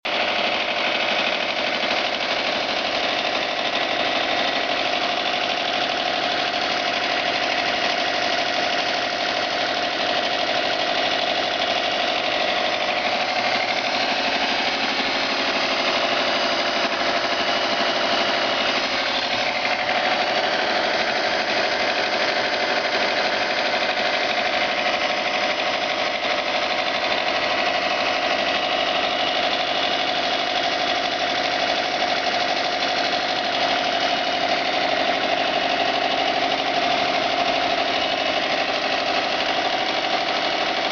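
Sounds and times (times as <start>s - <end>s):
rapid engine knocking: 0.0s - 40.9s
car engine running: 0.1s - 40.9s.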